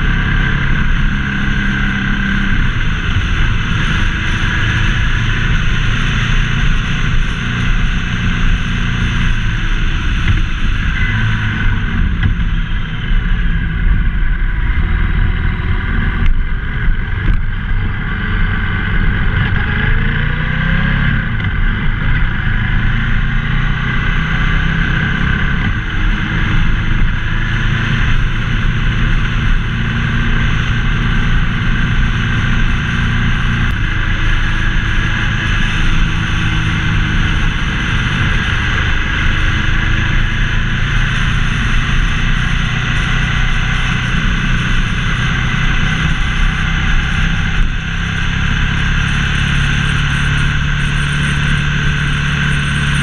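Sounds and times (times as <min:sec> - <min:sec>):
motorcycle engine running: 0:00.0 - 0:53.0
rushing wind noise: 0:00.0 - 0:53.0.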